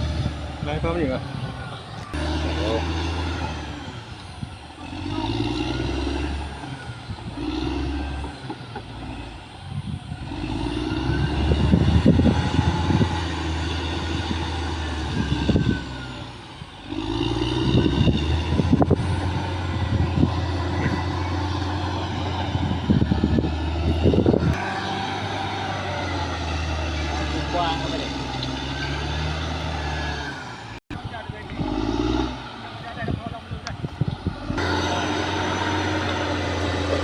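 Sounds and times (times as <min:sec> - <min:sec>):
bulldozer diesel engine working: 0:00.0 - 0:37.0.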